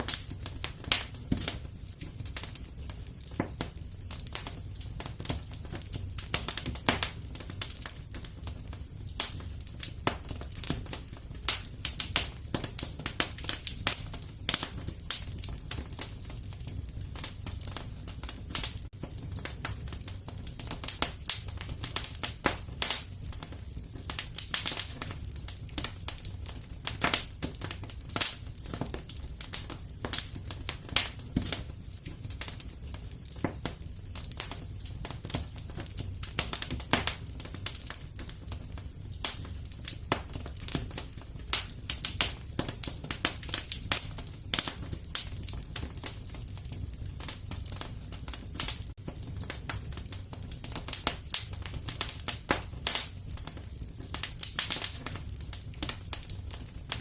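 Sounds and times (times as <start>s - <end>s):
fire low rumble: 0.0s - 57.0s
wood fire pops and snaps: 0.0s - 57.0s.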